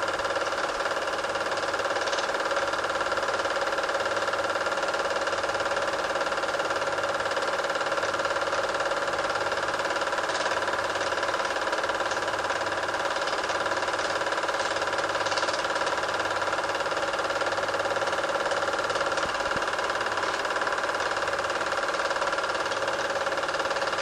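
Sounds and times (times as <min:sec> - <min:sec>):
film projector whirring: 0:00.0 - 0:24.0.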